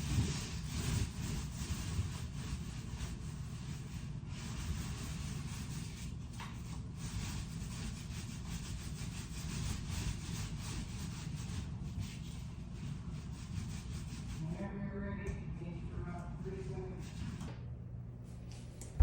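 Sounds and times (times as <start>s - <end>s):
paint roller rubbing on wall: 0.0s - 14.8s, 16.3s - 17.5s.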